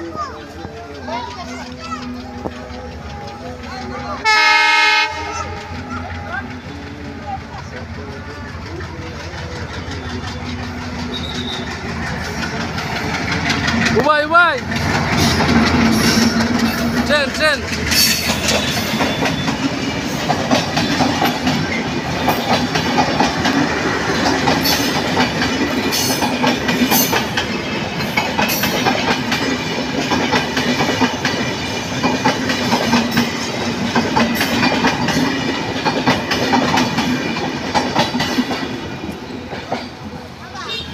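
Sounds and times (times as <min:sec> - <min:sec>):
train wheels clattering over rail joints: 0:00.9 - 0:40.2.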